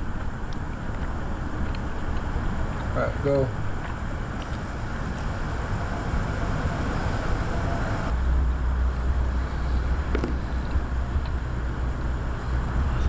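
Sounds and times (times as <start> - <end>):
steady traffic noise: 0.0 - 13.0.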